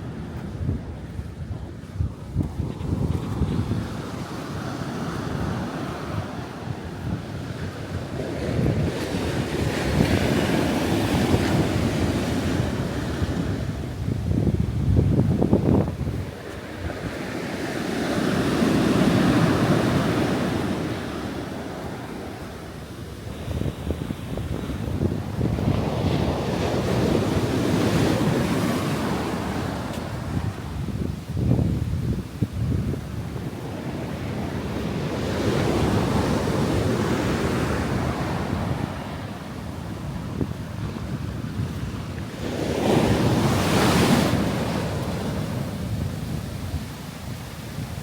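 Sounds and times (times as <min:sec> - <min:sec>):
sea waves washing ashore: 0:00.0 - 0:48.0
wind buffeting microphone: 0:00.0 - 0:48.0.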